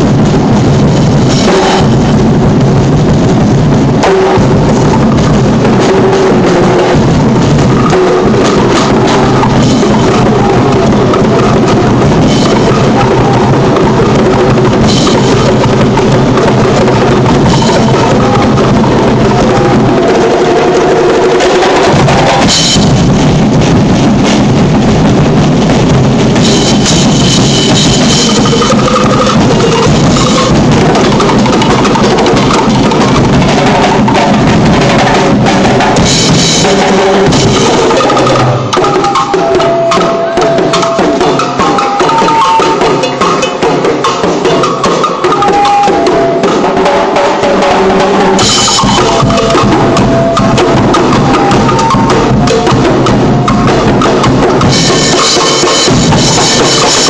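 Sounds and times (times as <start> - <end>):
bass drums: 0.0 - 57.0
percussion band drumming: 0.0 - 57.0.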